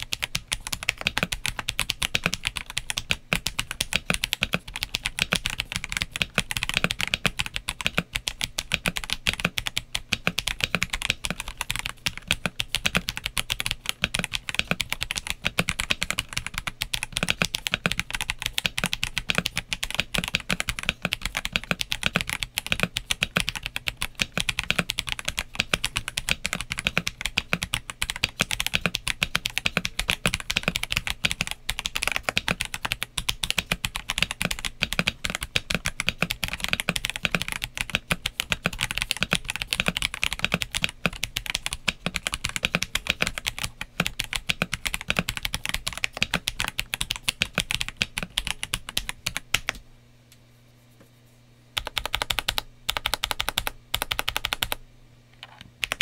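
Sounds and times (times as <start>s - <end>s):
fast mechanical keyboard typing: 0.0s - 49.8s, 51.8s - 54.8s, 55.4s - 56.0s.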